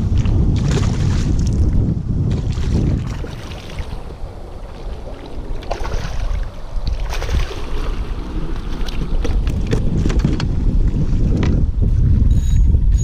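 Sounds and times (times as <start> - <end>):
water lapping at a kayak: 0.0 - 12.0
wind buffeting microphone: 0.0 - 13.0.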